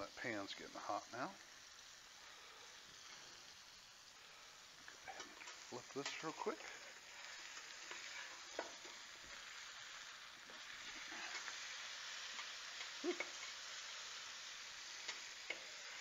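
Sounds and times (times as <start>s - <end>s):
fish sizzling in butter: 0.0s - 16.0s.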